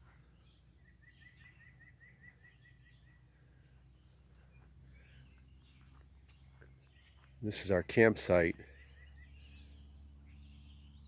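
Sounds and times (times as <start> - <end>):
bird chirping: 0.0 - 11.0
low steady rumble: 0.0 - 11.0.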